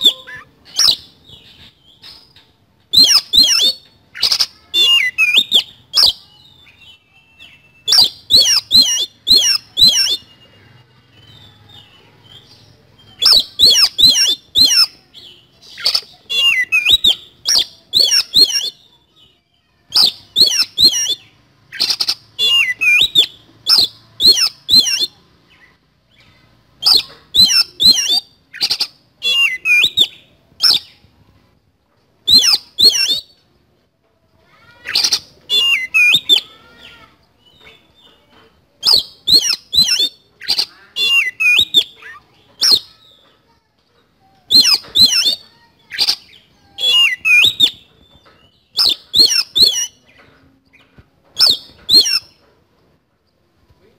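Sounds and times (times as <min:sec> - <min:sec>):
bird singing high phrases: 0:00.0 - 0:33.6, 0:34.3 - 0:52.5.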